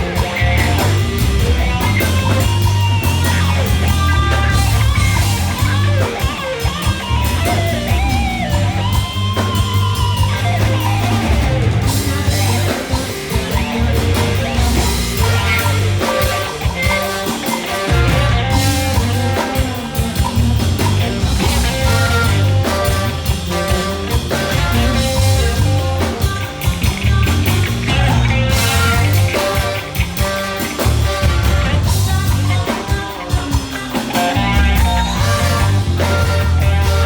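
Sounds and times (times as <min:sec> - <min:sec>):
funk band playing: 0:00.0 - 0:37.0.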